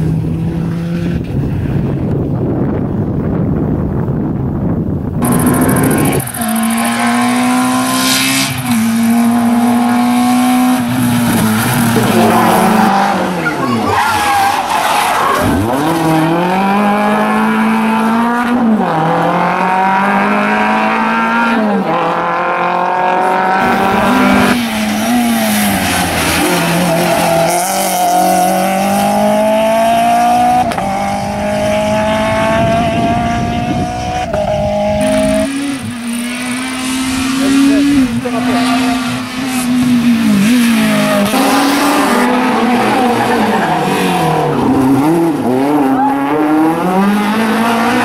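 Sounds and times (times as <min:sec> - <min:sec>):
rally car engines at full throttle: 0:00.0 - 0:48.0.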